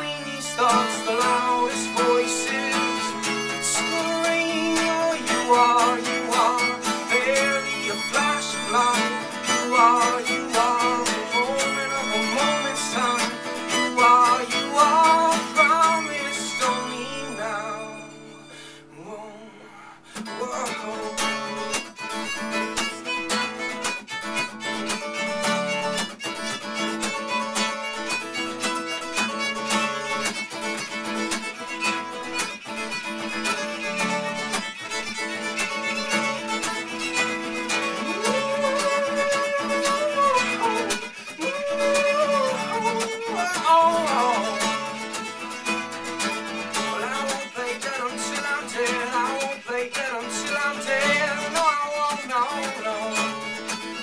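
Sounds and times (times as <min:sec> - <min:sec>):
violin melody: 0:00.0 - 0:18.7, 0:20.4 - 0:54.0
strummed acoustic guitar: 0:00.0 - 0:54.0.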